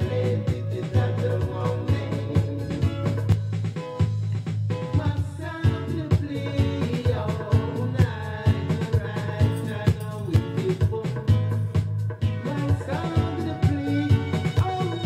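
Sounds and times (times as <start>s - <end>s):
dub reggae music: 0.0s - 15.0s.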